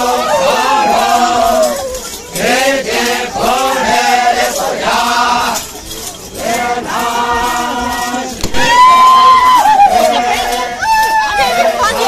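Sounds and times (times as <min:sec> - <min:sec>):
group chanting: 0:00.0 - 0:05.7, 0:06.4 - 0:10.8.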